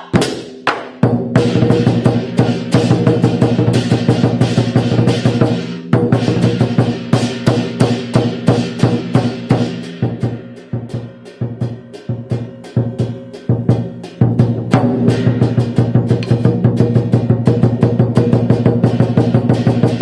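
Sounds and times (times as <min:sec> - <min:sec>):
crashing percussion: 0:00.0 - 0:20.0
rapid drumming: 0:00.0 - 0:20.0.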